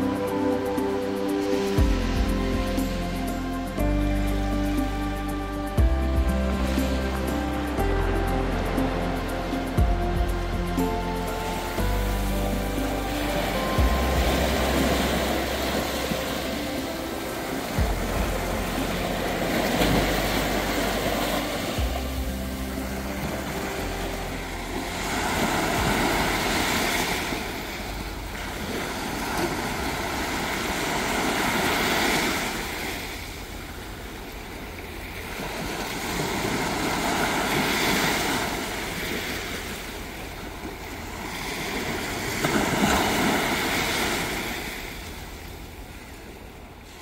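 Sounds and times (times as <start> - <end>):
waves washing up sandy beach: 0.0 - 47.0.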